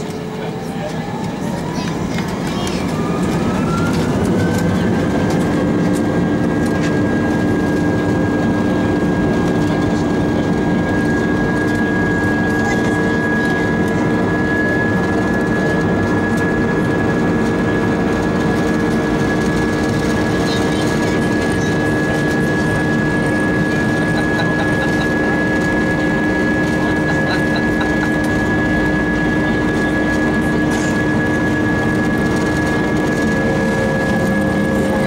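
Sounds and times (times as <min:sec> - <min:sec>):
turbofan engines whining: 0:00.0 - 0:35.0.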